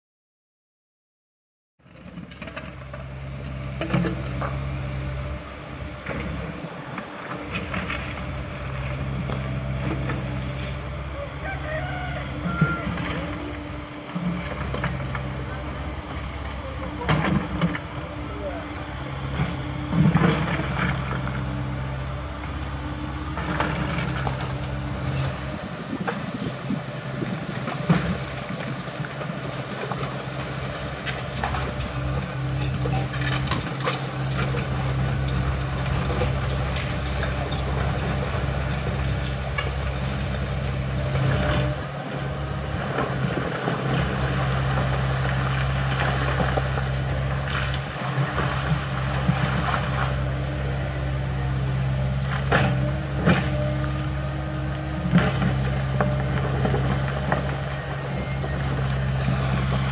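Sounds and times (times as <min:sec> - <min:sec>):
excavator diesel engine drone: 0:01.8 - 0:59.9.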